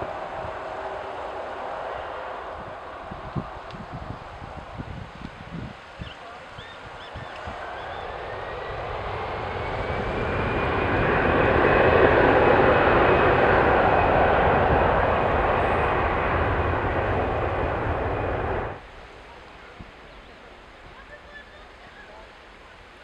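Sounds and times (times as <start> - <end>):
jet engines at takeoff power: 0.0 - 22.8.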